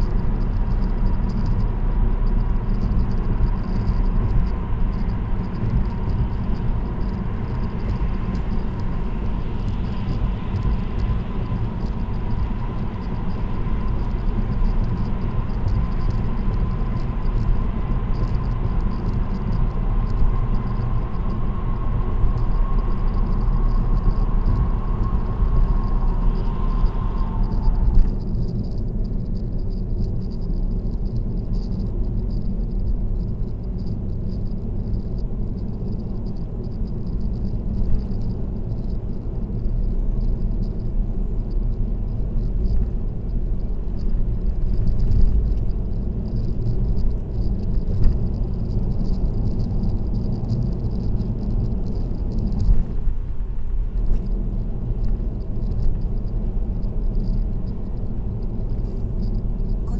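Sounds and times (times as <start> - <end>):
thin steady whine: 0.0 - 59.9
tyre and road rumble: 0.0 - 59.9.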